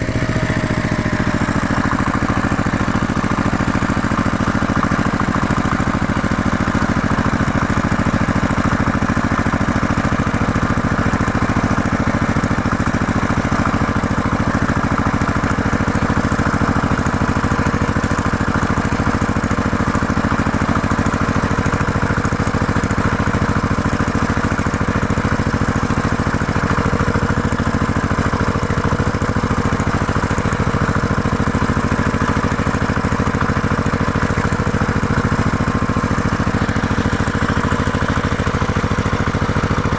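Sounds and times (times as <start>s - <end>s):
heavy machine engine droning: 0.0s - 39.9s.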